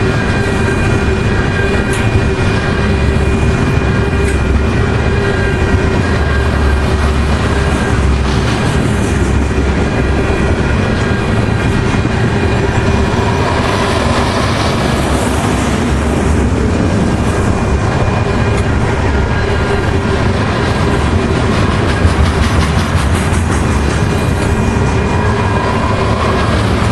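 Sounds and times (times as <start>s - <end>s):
train wheels rumbling on rail: 0.0s - 26.9s.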